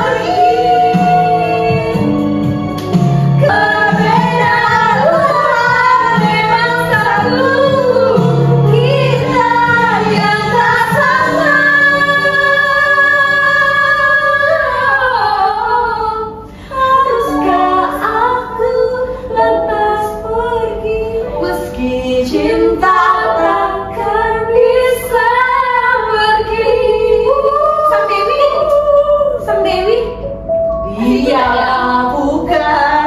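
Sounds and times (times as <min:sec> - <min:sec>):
women singing: 0:00.0 - 0:30.2, 0:30.8 - 0:33.0
backing track music: 0:00.0 - 0:33.0.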